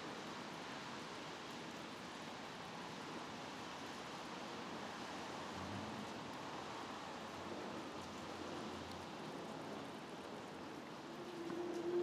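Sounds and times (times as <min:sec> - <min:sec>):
rain on foliage: 0:00.0 - 0:12.0.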